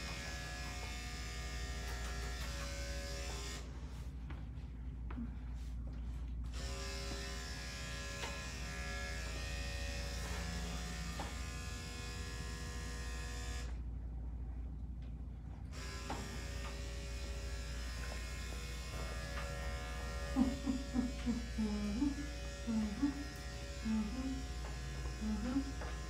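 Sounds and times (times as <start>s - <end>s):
electric clippers buzzing: 0.0s - 3.7s, 6.5s - 13.8s, 15.7s - 26.0s.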